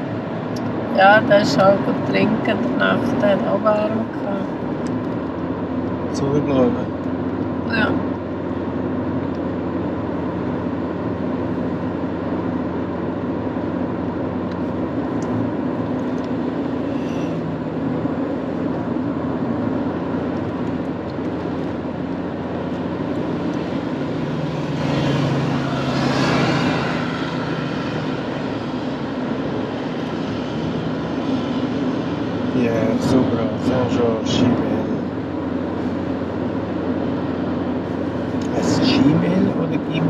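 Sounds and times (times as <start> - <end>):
car engine hum: 0.0 - 40.0
tyre and road noise: 0.0 - 40.0.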